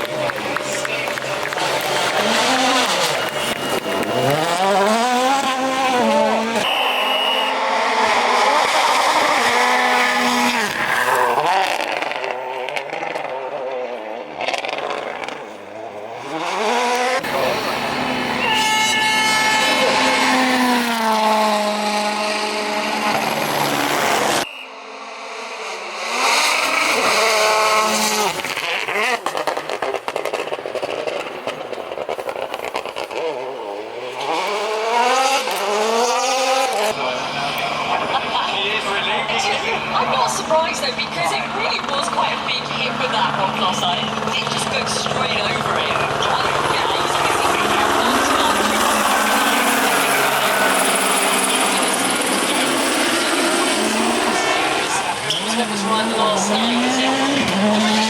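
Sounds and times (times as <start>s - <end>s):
rally car engine at full throttle: 0.0s - 58.0s.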